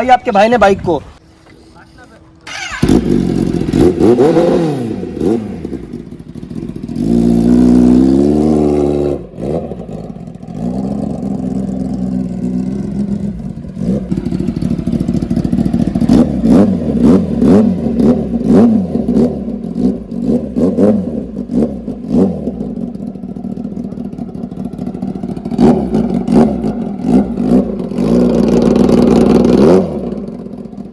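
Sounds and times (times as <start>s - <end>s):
motorcycle engine revving: 2.3s - 30.9s.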